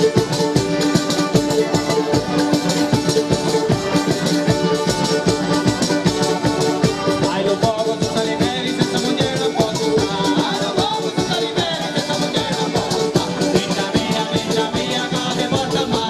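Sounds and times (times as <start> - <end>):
rattling hand percussion: 0.0 - 16.0
sliding melody line: 0.0 - 16.0
strummed acoustic guitar: 0.0 - 16.0.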